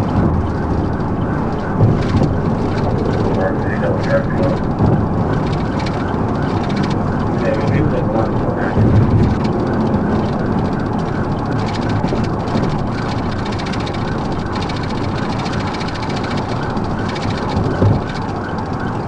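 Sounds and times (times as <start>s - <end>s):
vehicle driving at speed: 0.0s - 19.0s.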